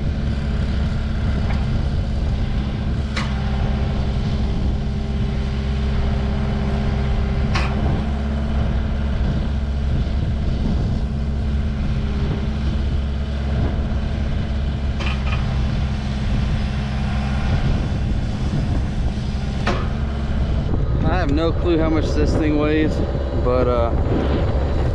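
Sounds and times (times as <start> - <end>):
machine engine running: 0.0 - 24.9.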